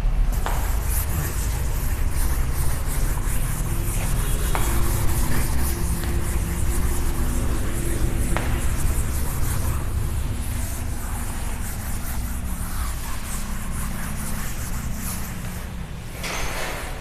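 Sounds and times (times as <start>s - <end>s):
low room hum: 0.0s - 17.0s
duster rubbing on chalkboard: 0.1s - 16.1s.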